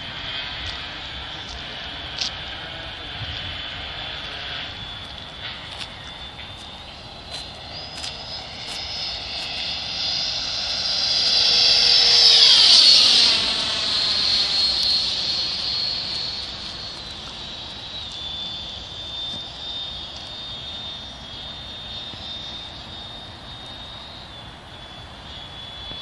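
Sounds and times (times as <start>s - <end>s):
model jet fan whining: 0.0s - 26.0s.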